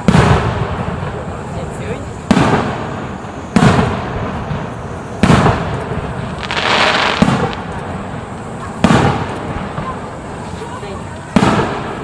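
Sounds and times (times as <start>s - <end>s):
fireworks booming: 0.0s - 12.0s
hissing crackle: 0.0s - 12.0s.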